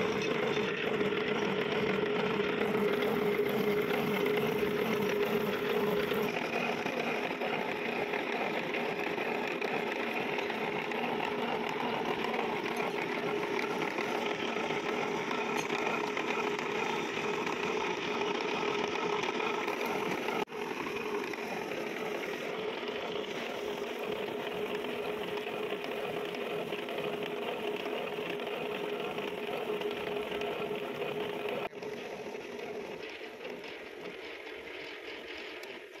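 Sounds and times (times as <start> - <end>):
constant machine hum: 0.0 - 36.0
milling cutter machining steel: 0.0 - 36.0.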